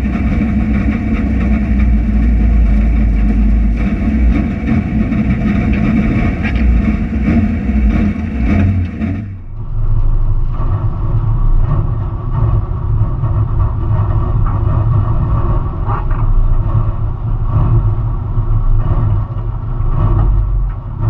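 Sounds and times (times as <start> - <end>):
rally car engine revving and idling: 0.0 - 21.0.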